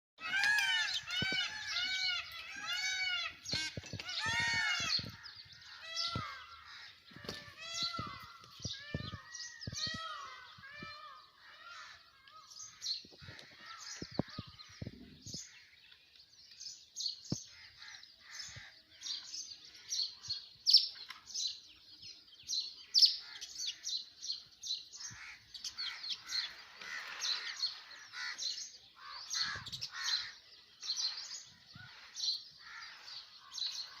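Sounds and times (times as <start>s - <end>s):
sparrows chirping: 0.2s - 34.0s.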